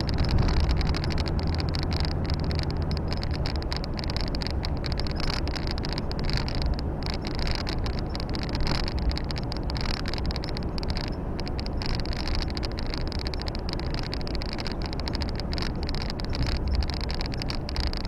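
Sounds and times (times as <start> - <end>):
road and wind noise: 0.0 - 18.0
truck engine drone: 0.0 - 18.0.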